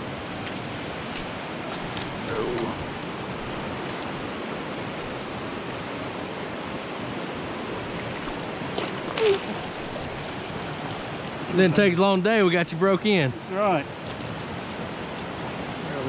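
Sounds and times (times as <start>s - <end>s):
river water rushing over rocks: 0.0s - 12.6s, 13.4s - 16.0s.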